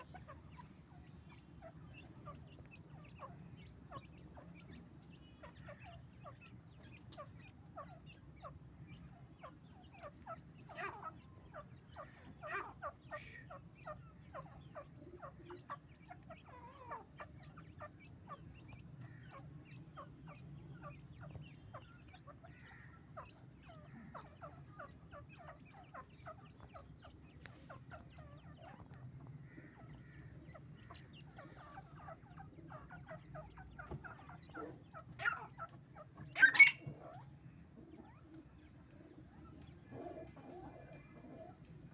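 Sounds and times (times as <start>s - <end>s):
bird chicks peeping: 0.0s - 41.9s.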